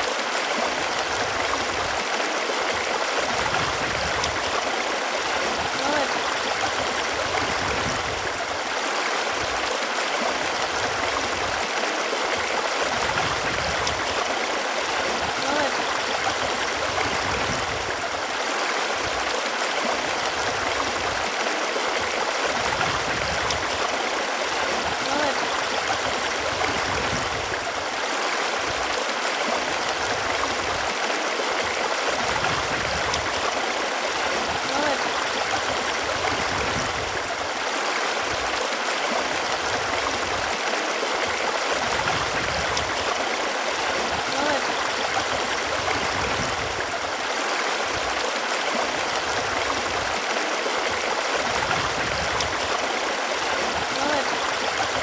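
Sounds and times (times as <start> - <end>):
running water flowing: 0.0 - 55.0.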